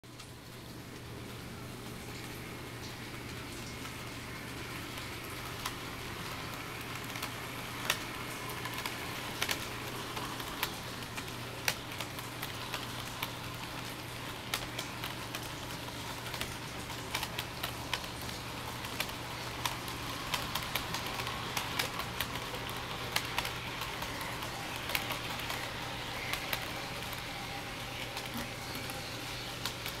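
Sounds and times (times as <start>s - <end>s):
model train wheels clicking: 1.8s - 30.0s.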